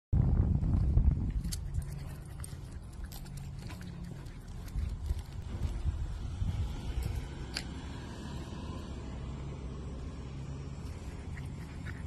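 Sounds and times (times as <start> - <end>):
low outdoor rumble: 0.2 - 12.0.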